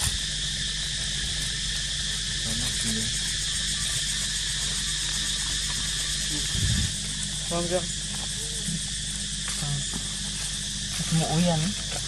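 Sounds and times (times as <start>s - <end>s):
insect chorus drone: 0.0s - 12.0s
low steady hum: 0.0s - 12.0s.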